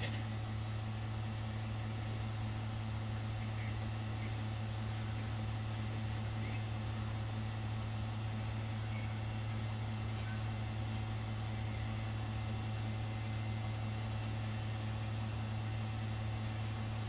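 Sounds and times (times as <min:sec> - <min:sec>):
outdoor air conditioning unit hum: 0:00.0 - 0:17.0.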